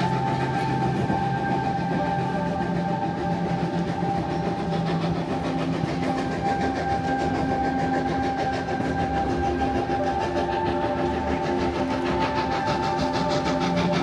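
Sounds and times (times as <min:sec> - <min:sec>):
faint clickety-clack: 0:00.0 - 0:14.0
train wheels rumbling on rail: 0:00.0 - 0:14.0.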